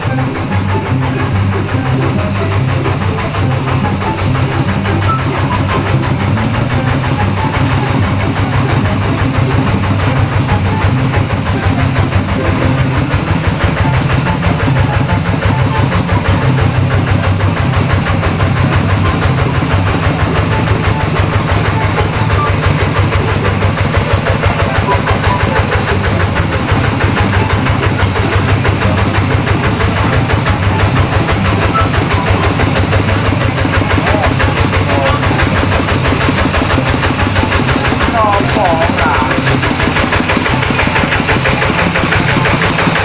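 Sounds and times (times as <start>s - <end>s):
engine chugging: 0.0s - 43.0s.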